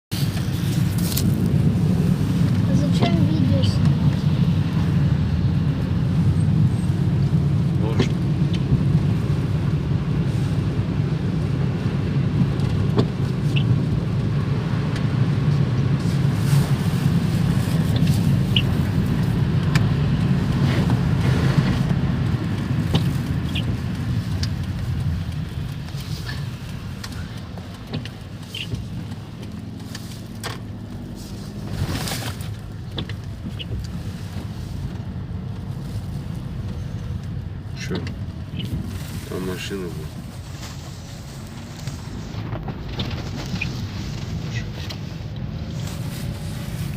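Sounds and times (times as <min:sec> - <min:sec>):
car engine running: 0:00.1 - 0:46.9.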